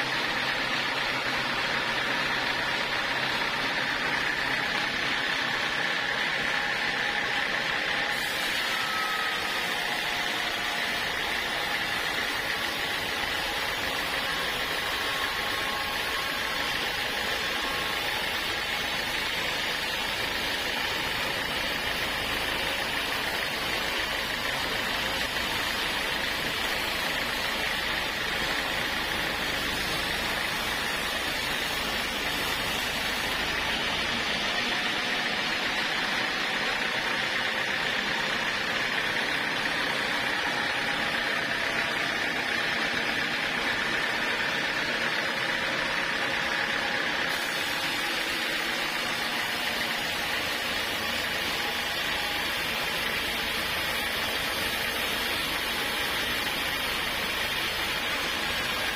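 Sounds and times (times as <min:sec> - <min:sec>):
sawmill saw whining: 0:00.0 - 0:58.9.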